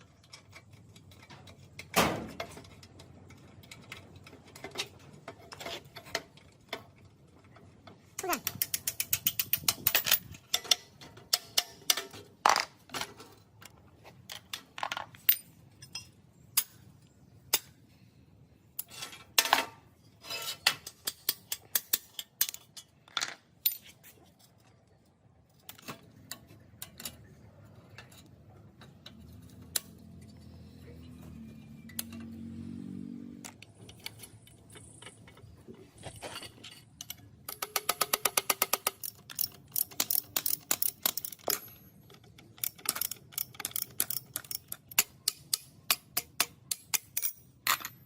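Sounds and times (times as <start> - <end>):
metal parts and tools clinking: 0.0 - 17.9, 18.6 - 48.0.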